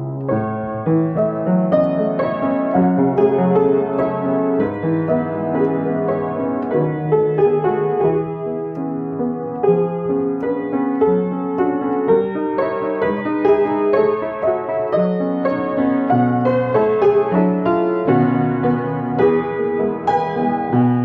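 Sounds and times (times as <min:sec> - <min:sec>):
upright piano melody: 0:00.0 - 0:21.0.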